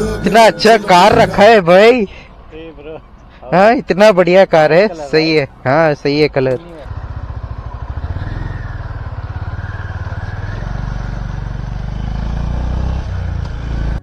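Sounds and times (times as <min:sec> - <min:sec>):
motorcycle engine pulsing: 0:00.0 - 0:04.0, 0:05.5 - 0:14.0.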